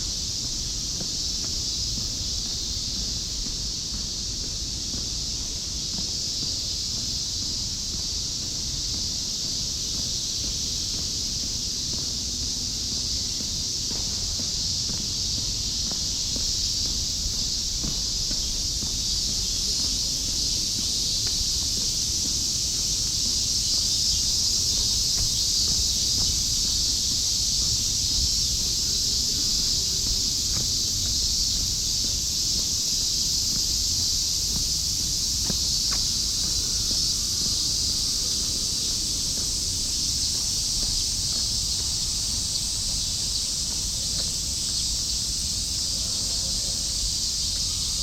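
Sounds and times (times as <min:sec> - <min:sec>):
cicadas buzzing: 0:00.0 - 0:48.0.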